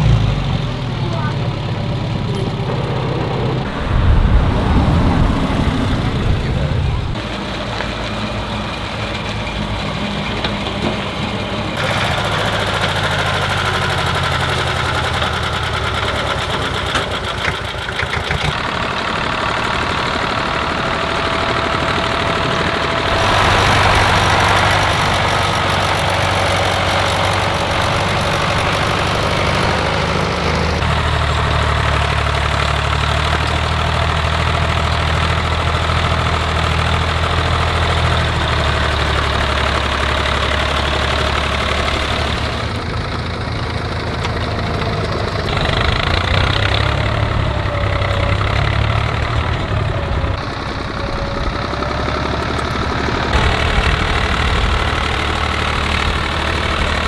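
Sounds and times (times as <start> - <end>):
tractor engines running: 0.0 - 57.0.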